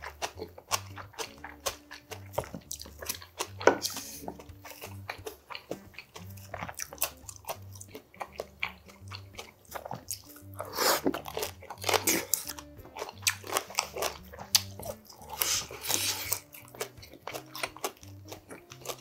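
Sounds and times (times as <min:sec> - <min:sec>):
crunchy chewing and biting of food: 0:00.0 - 0:19.0.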